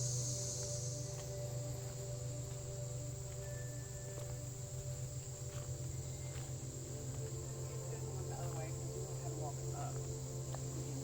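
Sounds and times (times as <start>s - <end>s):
crickets chirping: 0.0s - 11.0s
low hum: 0.0s - 11.0s.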